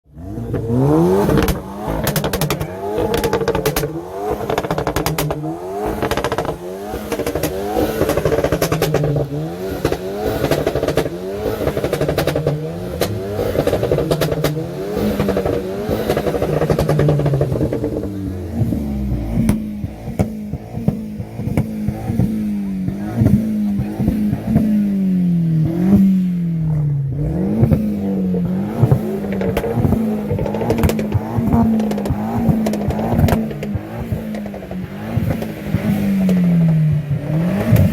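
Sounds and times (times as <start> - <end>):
car engine revving: 0.0 - 37.9
exhaust pops and crackles: 0.4 - 37.9.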